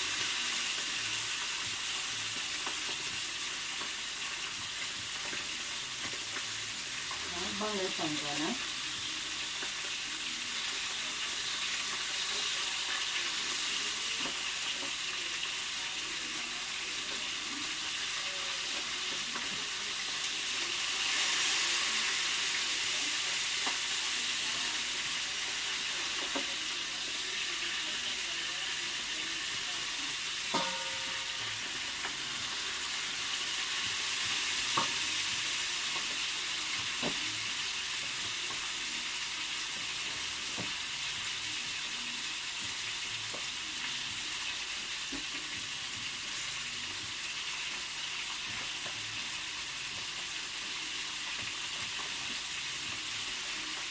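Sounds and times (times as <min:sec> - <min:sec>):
fish frying in hot oil: 0:00.0 - 0:53.9.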